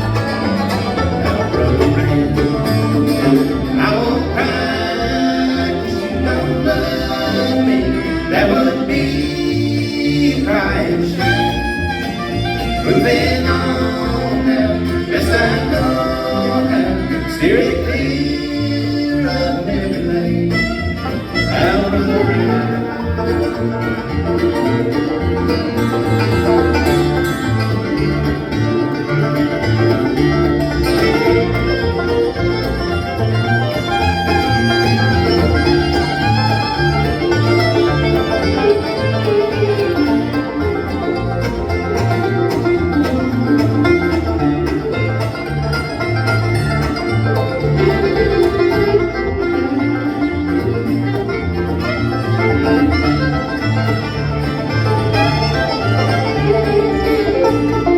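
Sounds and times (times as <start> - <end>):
banjo: 0.0 - 57.9
bass line: 0.0 - 57.9
bluegrass band playing: 0.0 - 57.9
fiddle: 0.0 - 57.9.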